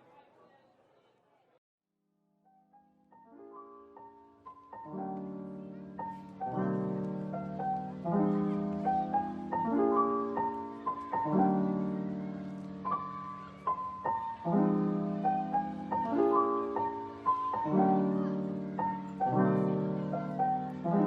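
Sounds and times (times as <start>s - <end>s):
gentle piano tune: 2.7s - 21.0s.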